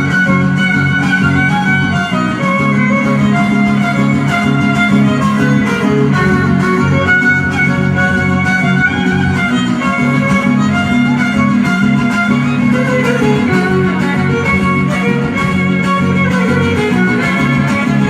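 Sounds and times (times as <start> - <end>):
guitar accompaniment: 0.0 - 18.0
violin melody: 0.0 - 18.0.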